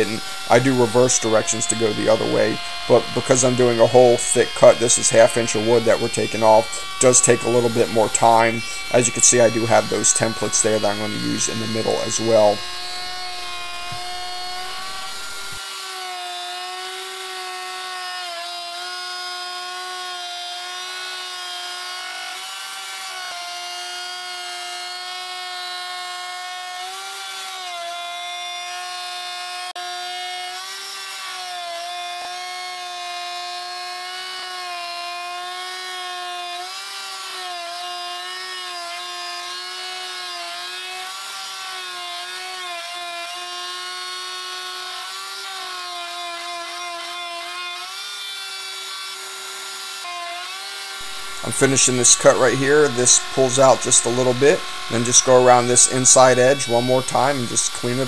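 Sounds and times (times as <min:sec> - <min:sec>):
router whining cutting wood: 0:00.0 - 0:58.0.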